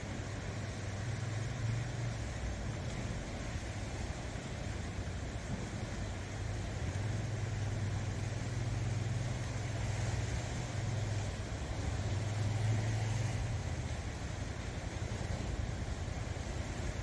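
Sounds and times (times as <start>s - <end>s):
low engine hum: 0.0s - 17.0s
waves breaking on rocks: 0.0s - 17.0s.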